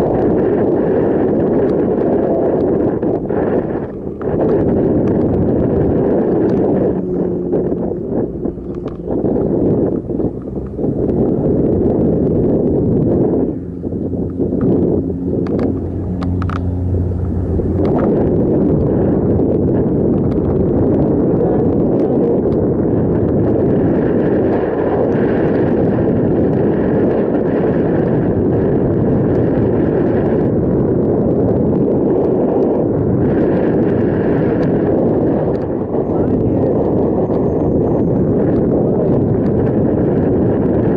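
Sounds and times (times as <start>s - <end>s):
low hum: 0.0s - 40.9s
wind noise on microphone: 0.0s - 40.9s.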